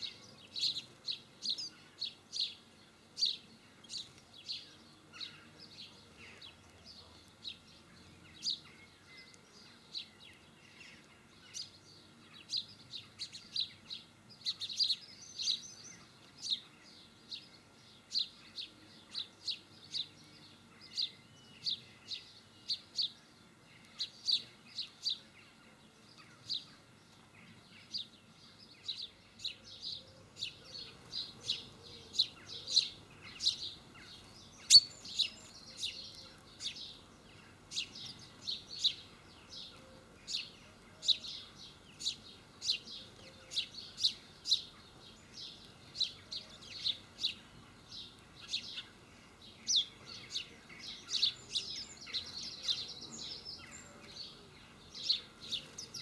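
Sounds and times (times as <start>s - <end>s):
garden birds chirping: 0.0s - 56.0s.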